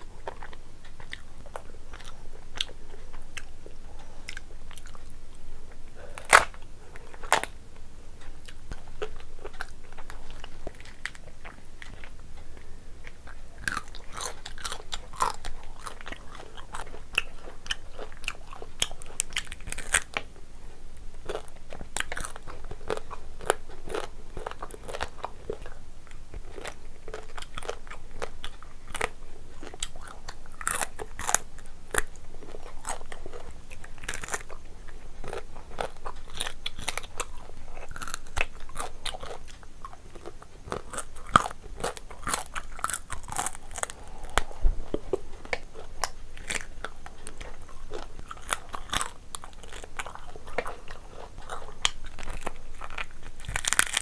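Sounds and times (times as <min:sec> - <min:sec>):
chewing and sucking: 0:00.0 - 0:07.6, 0:08.2 - 0:20.4, 0:21.2 - 0:54.0
crunching on crab shell: 0:06.0 - 0:07.6, 0:08.2 - 0:20.3, 0:21.2 - 0:54.0.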